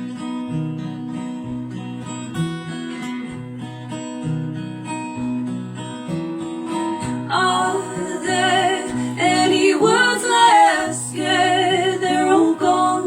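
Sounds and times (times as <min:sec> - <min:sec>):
acoustic guitar plucked and strummed: 0:00.0 - 0:13.0.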